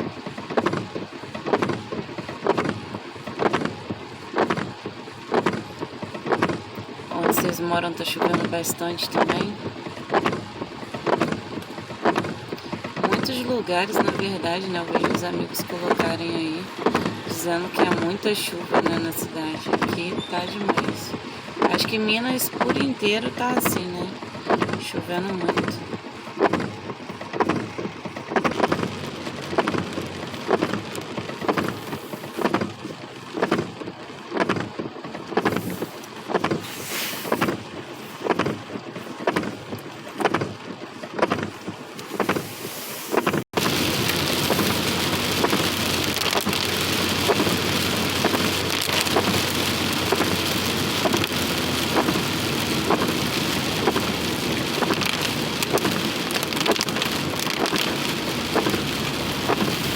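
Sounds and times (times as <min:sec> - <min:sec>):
heavy rain falling: 0:00.0 - 0:36.6, 0:43.1 - 0:59.9.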